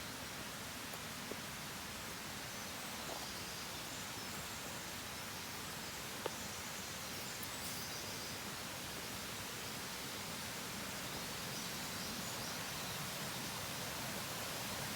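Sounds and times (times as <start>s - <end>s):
forest hiss: 0.0s - 14.9s.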